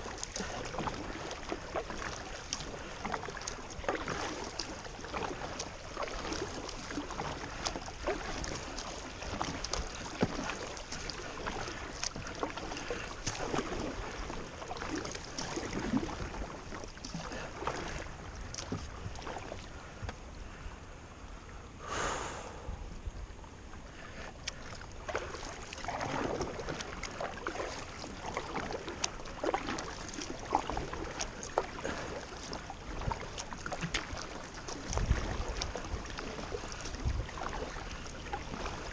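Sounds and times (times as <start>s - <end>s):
paddle splashes: 0.0s - 38.9s
rush of water: 0.0s - 38.9s
water moving around boat: 0.0s - 38.9s.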